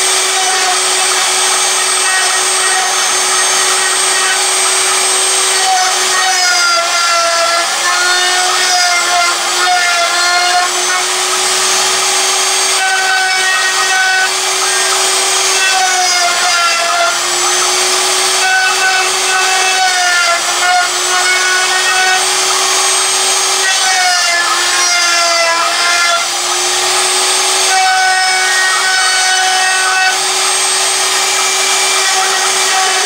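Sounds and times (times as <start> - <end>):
cnc router spindle whining: 0.0 - 33.0.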